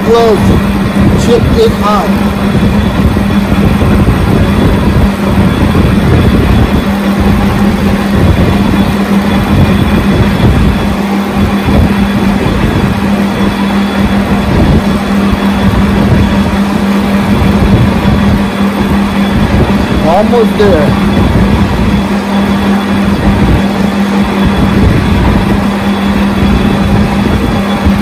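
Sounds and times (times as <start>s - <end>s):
lathe humming: 0.0s - 28.0s.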